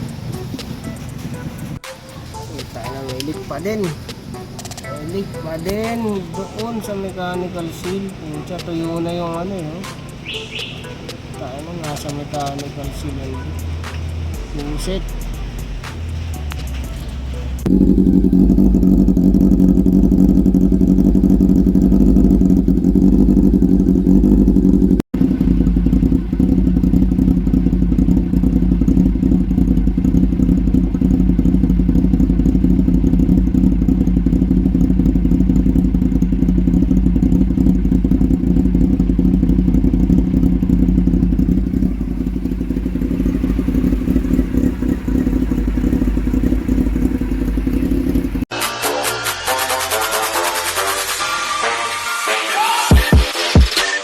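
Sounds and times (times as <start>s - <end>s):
motorcycle engine idling: 0.0s - 48.5s.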